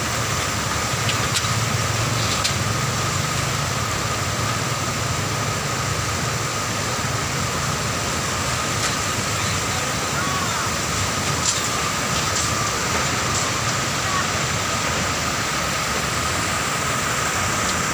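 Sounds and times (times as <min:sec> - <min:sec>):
floodwater rushing: 0:00.0 - 0:17.9
truck engine running low: 0:00.0 - 0:17.9.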